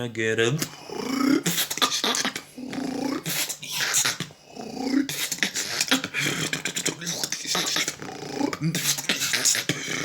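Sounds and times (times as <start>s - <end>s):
beatboxing growling bass: 0.6s - 10.0s.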